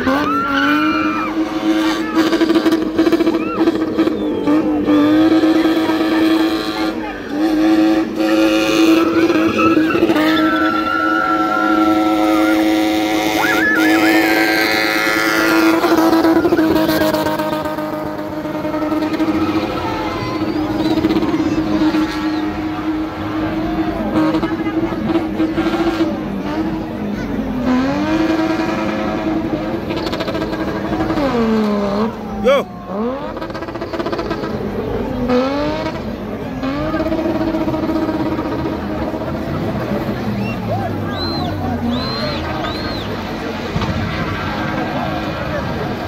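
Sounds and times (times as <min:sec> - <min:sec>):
car engine at high revs: 0:00.0 - 0:46.0.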